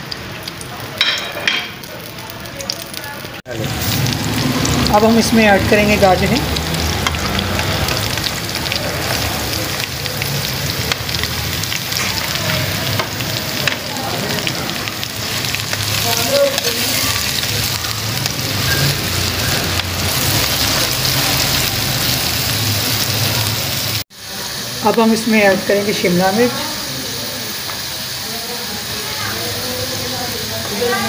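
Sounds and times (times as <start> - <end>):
vegetables sizzling in a pan: 0.0 - 31.0.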